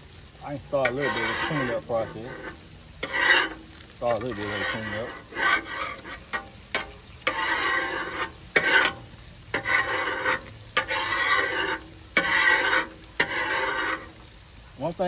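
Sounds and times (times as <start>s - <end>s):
burgers sizzling: 0.0s - 15.0s
metal scraper on griddle: 0.8s - 14.3s.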